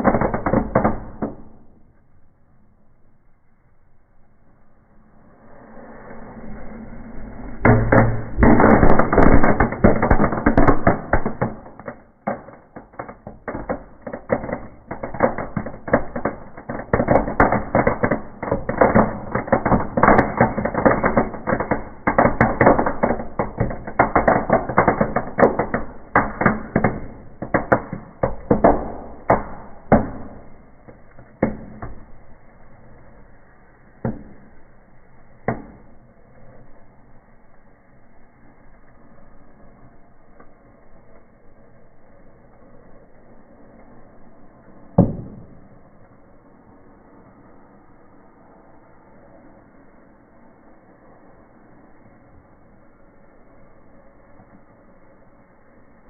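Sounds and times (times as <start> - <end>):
fire crackling and popping: 0.0 - 2.4, 5.0 - 56.0.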